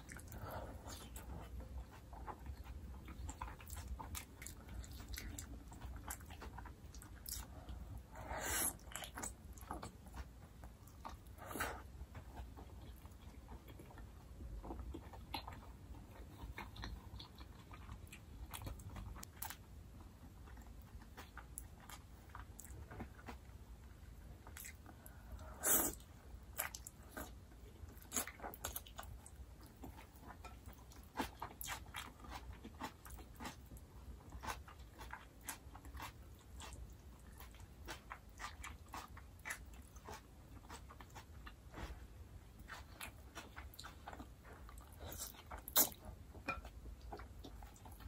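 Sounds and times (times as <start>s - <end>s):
wet chewing and smacking: 0.0s - 48.0s.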